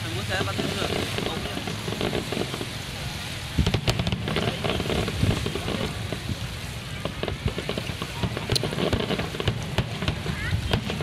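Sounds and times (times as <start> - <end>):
fireworks crackling pops: 0.0 - 11.0
fireworks low booms: 0.0 - 11.0.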